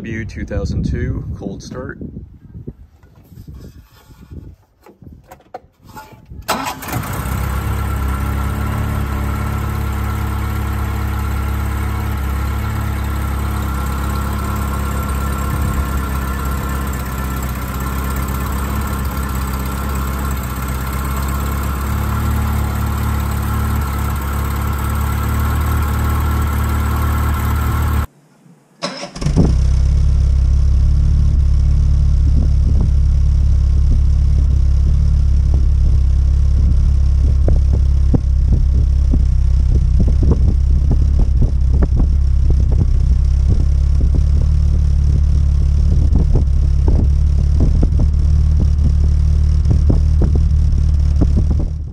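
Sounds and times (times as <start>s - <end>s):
car engine starting and idling: 6.3s - 51.9s
deep exhaust note: 6.6s - 28.1s, 29.2s - 51.9s.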